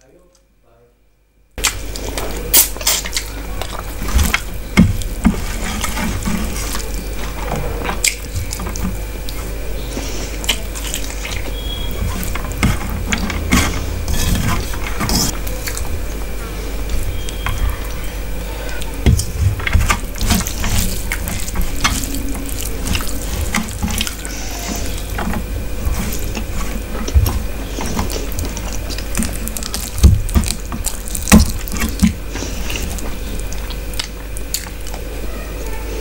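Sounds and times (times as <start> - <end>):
fingers squishing rice: 1.6 - 35.1.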